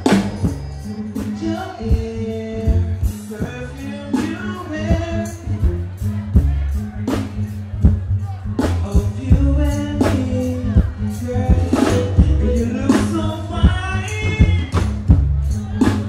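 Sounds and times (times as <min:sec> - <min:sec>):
man singing into microphone: 0:00.0 - 0:14.8
backing track with drums and bass: 0:00.0 - 0:16.0.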